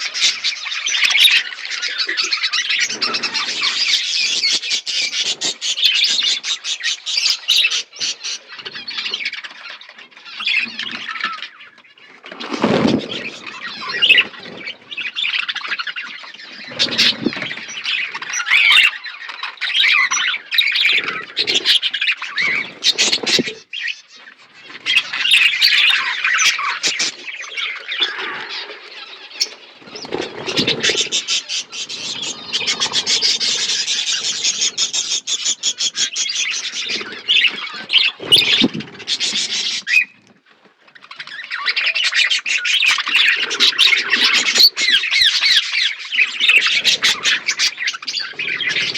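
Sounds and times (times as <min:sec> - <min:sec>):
budgerigars chirping and chattering: 0:00.0 - 0:48.9.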